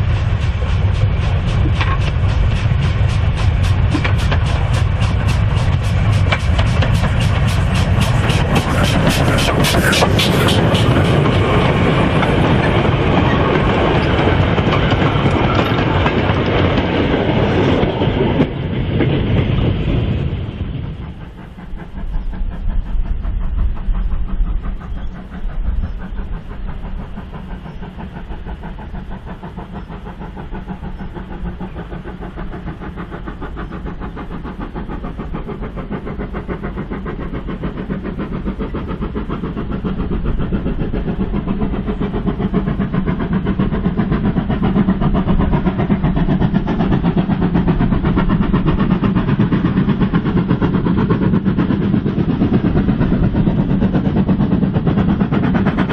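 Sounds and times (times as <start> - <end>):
steam locomotive exhaust beating: 0.0 - 55.9.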